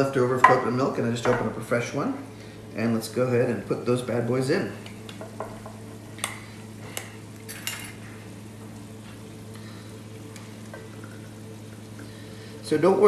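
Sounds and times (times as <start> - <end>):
masala sizzling in pot: 1.7 - 13.0.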